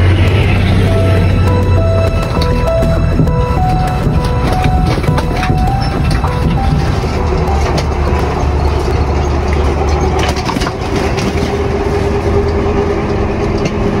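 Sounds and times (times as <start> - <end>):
steady whine: 0.0 - 14.0
truck body knocking and rattling: 0.0 - 14.0
truck engine rumble: 0.0 - 14.0.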